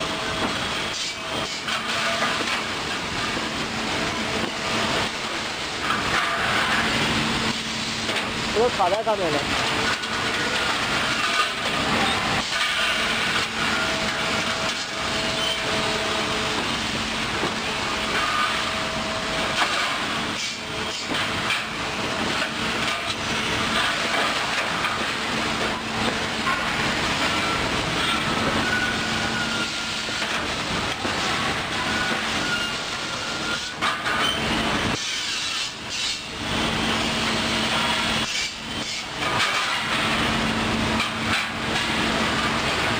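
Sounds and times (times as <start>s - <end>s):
machinery running: 0.0s - 42.9s.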